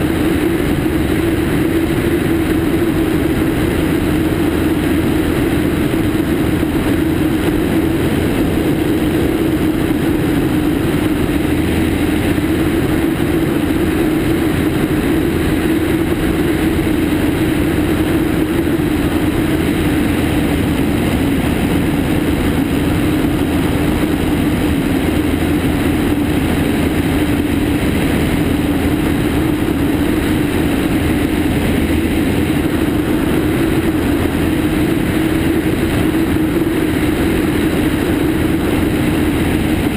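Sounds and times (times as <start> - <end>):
small plane engine and propeller: 0.0 - 39.9
wind rushing over microphone: 0.0 - 39.9.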